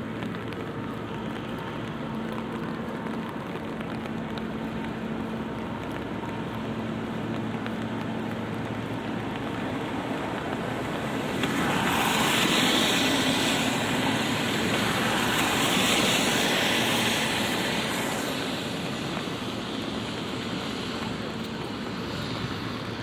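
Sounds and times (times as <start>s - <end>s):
light rain on street: 0.0s - 23.0s
vehicle tyres hissing on wet road: 0.0s - 23.0s.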